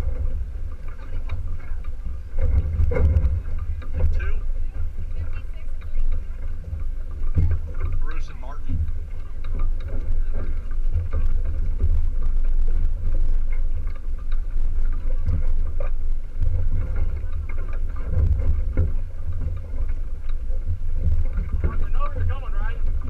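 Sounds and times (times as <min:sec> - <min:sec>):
choppy water along hull: 0:00.0 - 0:23.0
wind buffeting microphone: 0:00.0 - 0:23.0.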